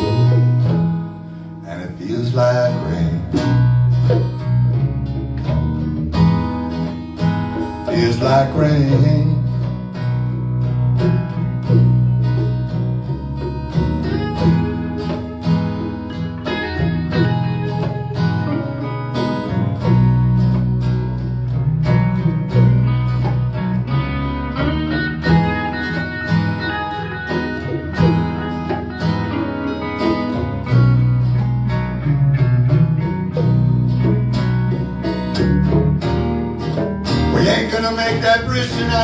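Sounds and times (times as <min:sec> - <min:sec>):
acoustic guitar strummed and picked: 0:00.0 - 0:39.0.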